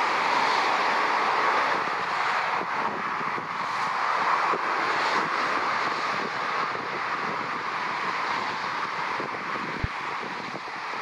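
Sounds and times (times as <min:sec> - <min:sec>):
motorway traffic rushing: 0:00.0 - 0:11.0.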